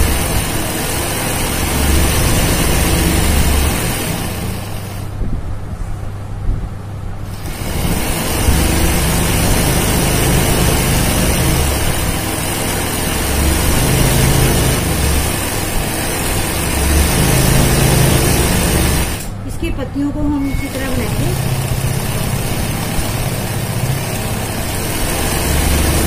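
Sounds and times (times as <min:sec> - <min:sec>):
embroidery machine running: 0:00.0 - 0:05.2, 0:07.2 - 0:26.0.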